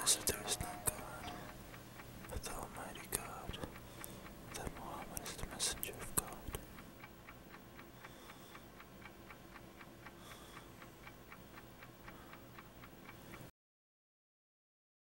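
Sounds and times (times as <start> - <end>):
faint clock ticking: 0.0 - 13.5.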